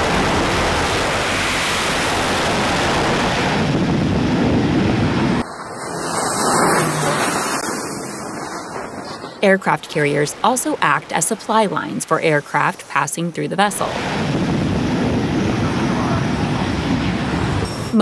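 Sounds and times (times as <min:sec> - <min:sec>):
jet engines roaring: 0:00.0 - 0:18.0
turboprop aircraft engine noise: 0:00.0 - 0:18.0.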